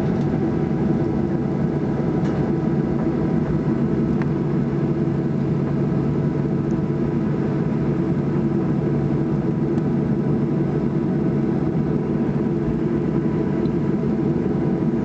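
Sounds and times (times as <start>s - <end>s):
jet engine cabin drone: 0.0s - 15.0s
steady hums: 0.0s - 15.0s.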